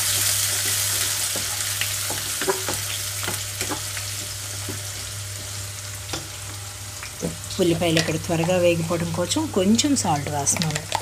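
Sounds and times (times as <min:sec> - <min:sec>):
onions sizzling in hot oil: 0:00.0 - 0:10.6.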